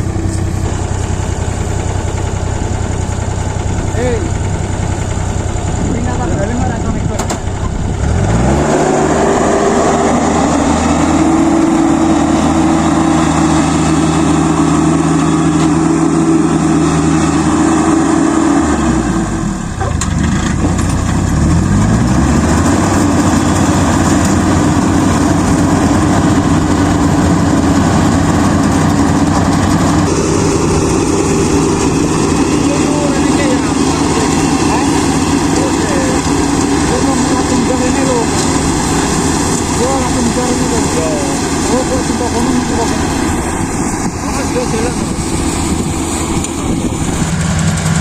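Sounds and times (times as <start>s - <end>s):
harvester diesel engine running: 0.0s - 48.0s.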